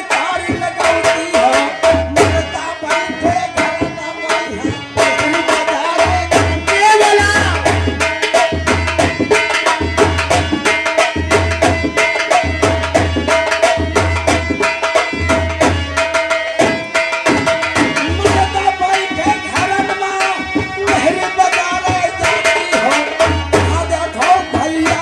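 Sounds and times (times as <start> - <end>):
hand drums fast rhythm: 0.0 - 25.0.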